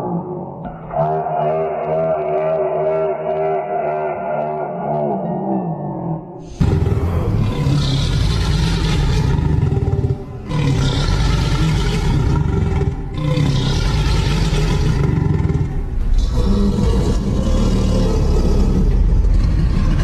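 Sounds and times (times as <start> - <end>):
deep rumbling dinosaur roars: 0.0 - 20.0.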